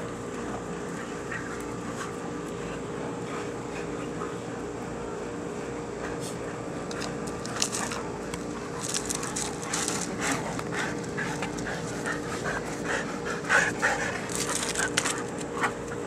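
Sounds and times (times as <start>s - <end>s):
dogs panting rapidly: 0.3s - 5.1s, 6.0s - 16.0s.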